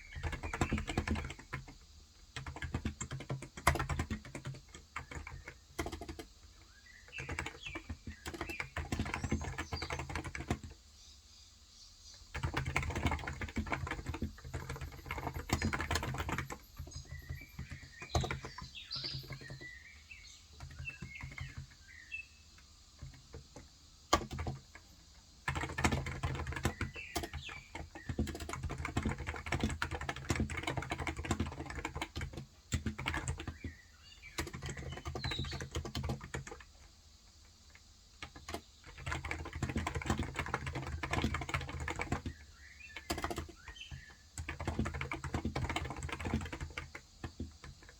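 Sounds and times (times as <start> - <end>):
typing on keyboard: 0.0 - 10.8, 12.1 - 36.9, 37.7 - 47.9
small birds chirping: 0.0 - 47.9.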